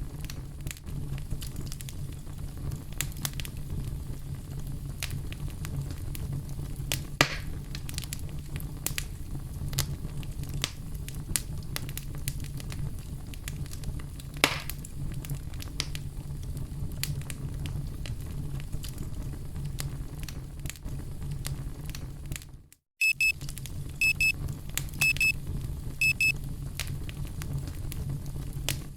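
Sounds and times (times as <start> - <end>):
campfire crackling: 0.0 - 22.4, 23.3 - 28.9
loud fire pops: 0.0 - 22.6, 23.3 - 28.9.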